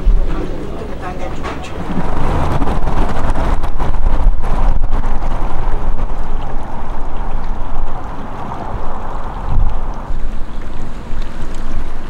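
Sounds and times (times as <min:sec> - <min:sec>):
water rushing down a channel: 0:00.0 - 0:12.0
wind buffeting microphone: 0:00.0 - 0:12.0.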